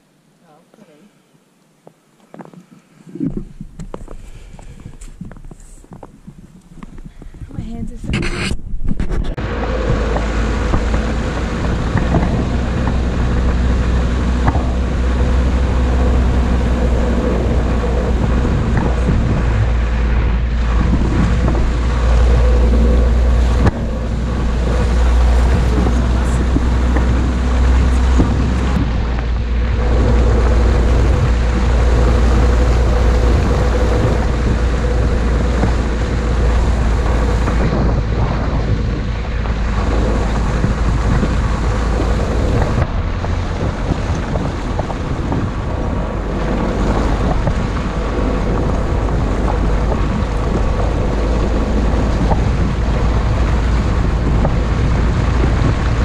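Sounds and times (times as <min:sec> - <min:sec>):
wind rumble on microphone: 0:01.8 - 0:56.0
off-road vehicle engine running: 0:09.0 - 0:56.0.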